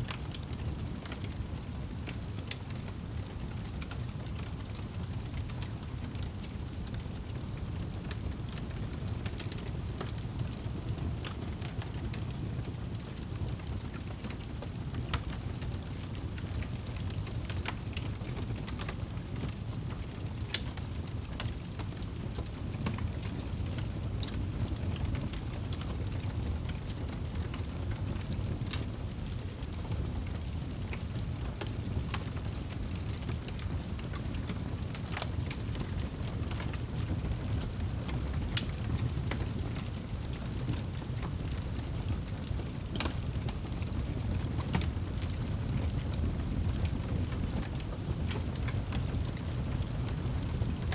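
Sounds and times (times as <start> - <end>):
fire crackling and popping: 0.0 - 50.9
rain rumble: 0.0 - 50.9.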